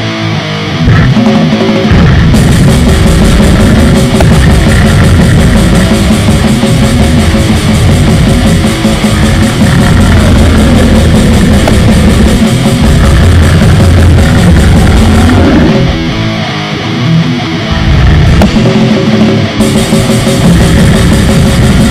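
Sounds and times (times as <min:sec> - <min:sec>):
heavy metal music: 0:00.0 - 0:21.9.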